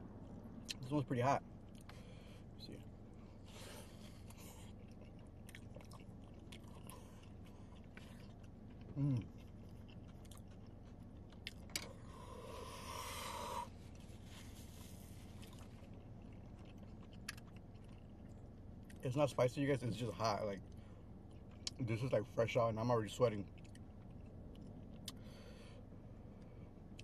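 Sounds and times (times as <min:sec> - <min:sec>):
low hum: 0:00.0 - 0:27.0
man chewing food: 0:00.1 - 0:19.0, 0:20.0 - 0:22.0, 0:23.4 - 0:27.0.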